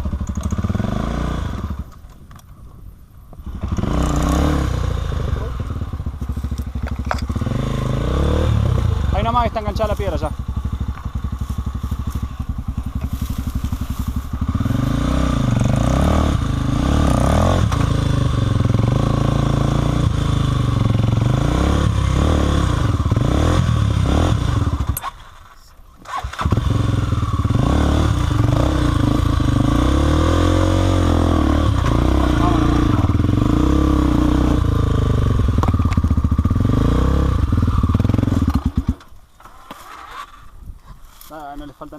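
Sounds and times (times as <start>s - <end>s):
dirt bike engine revving: 0.0s - 1.9s, 3.4s - 25.2s, 26.0s - 40.4s.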